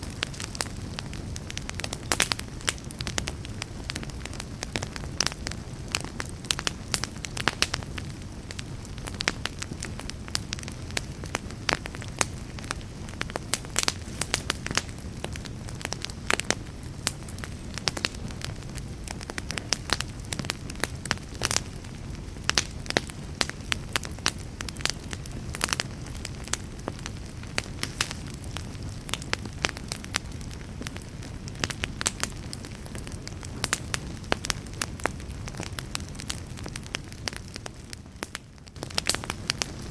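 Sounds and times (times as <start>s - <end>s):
fire crackling and popping: 0.0s - 39.9s
wood fire rumbling: 0.0s - 39.9s.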